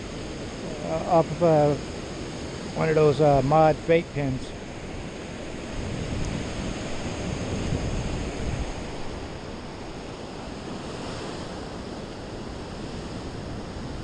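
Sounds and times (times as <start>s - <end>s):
ocean surf washing up: 0.0s - 14.0s
wind rumbling on microphone: 0.0s - 14.0s.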